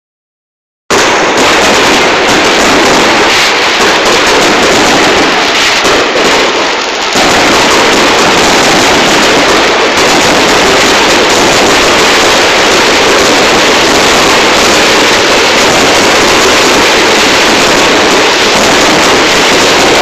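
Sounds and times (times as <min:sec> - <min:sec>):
fireworks bursting and crackling: 0:00.9 - 0:20.0.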